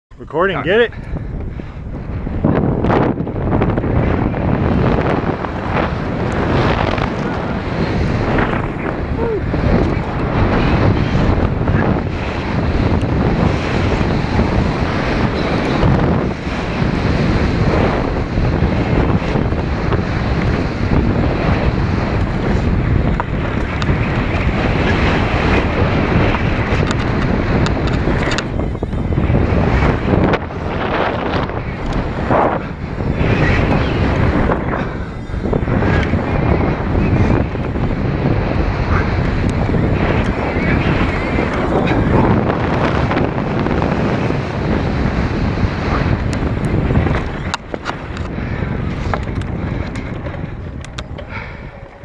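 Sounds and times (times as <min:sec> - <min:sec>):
bike tyre noise on dirt: 0:00.1 - 0:52.0
wind on camera microphone: 0:00.1 - 0:52.0
bike rattling over bumps: 0:01.0 - 0:52.0.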